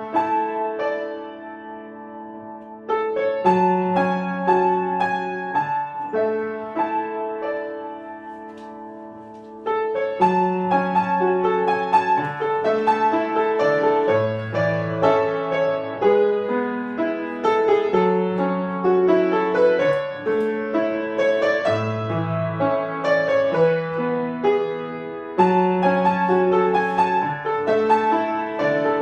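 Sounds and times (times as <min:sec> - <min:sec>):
solo piano playing: 0:00.0 - 0:29.0.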